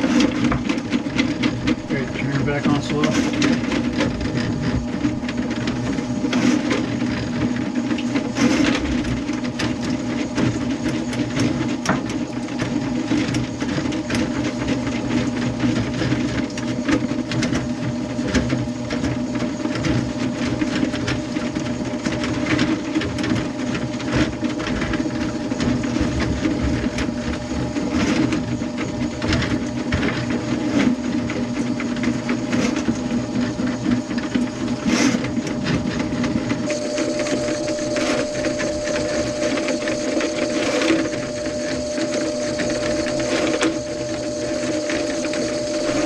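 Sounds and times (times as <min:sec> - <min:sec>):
drain cleaning motor humming: 0:00.0 - 0:46.0.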